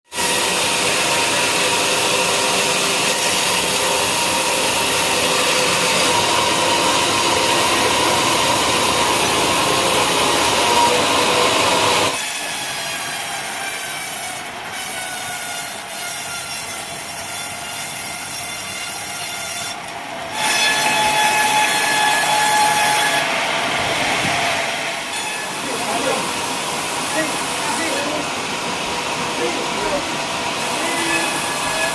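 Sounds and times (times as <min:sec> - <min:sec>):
saw blade cutting timber: 0:00.1 - 0:23.3, 0:24.1 - 0:28.3, 0:29.4 - 0:31.9
saw blade whine: 0:00.1 - 0:31.9.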